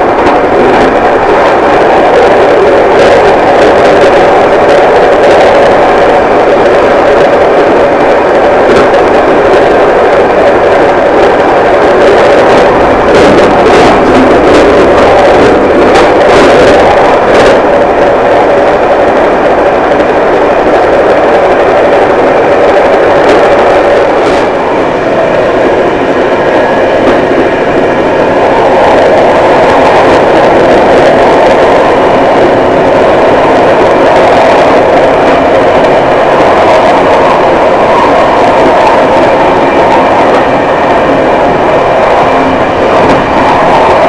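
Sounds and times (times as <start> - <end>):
train rumble inside carriage: 0.0 - 44.0
wheels clicking on rails: 0.0 - 44.0.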